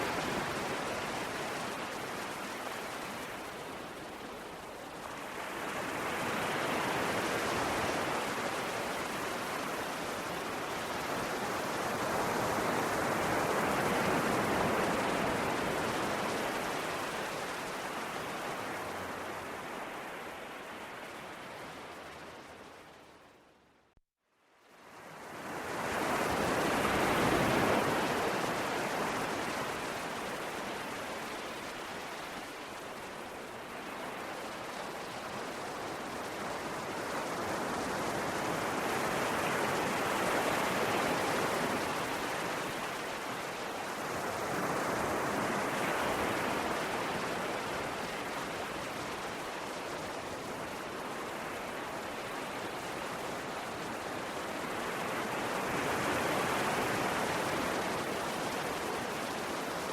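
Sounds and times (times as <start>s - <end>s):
sea waves breaking on shore: 0.0s - 23.4s, 24.8s - 59.9s.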